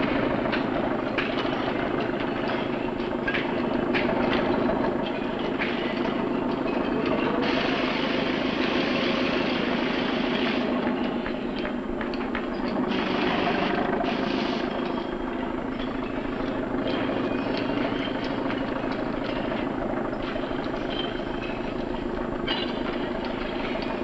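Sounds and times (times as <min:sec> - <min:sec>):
knocks and clatter: 0:00.0 - 0:24.0
low mechanical rumble: 0:00.0 - 0:24.0.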